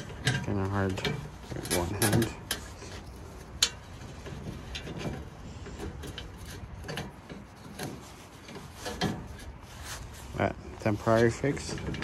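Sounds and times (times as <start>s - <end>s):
tie scraping on steel frame: 0.0s - 12.0s.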